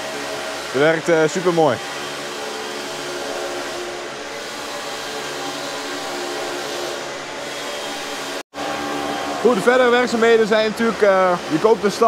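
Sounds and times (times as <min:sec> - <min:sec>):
concrete grinder running: 0:00.0 - 0:12.0.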